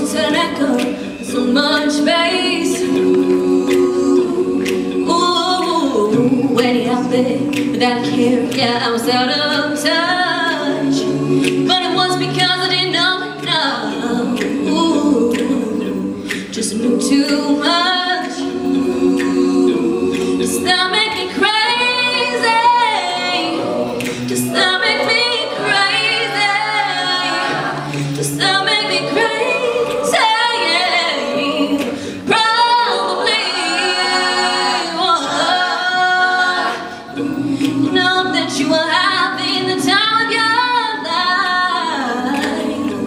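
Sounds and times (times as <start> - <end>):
a cappella group singing: 0.0 - 43.0
woman singing lead: 0.0 - 43.0.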